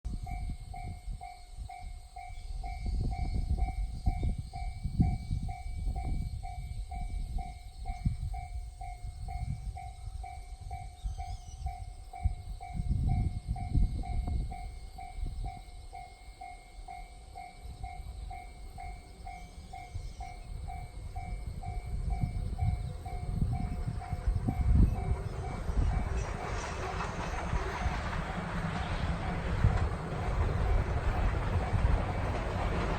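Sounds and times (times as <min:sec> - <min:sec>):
level-crossing warning bell: 0:00.1 - 0:32.9.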